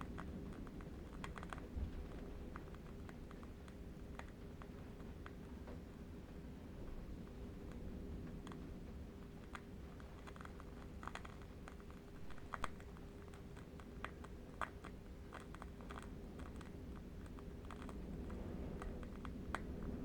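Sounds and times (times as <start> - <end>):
faint irregular clicks: 0.0 - 20.0
faint steady hum: 0.0 - 20.0
low steady rumble: 0.0 - 20.0.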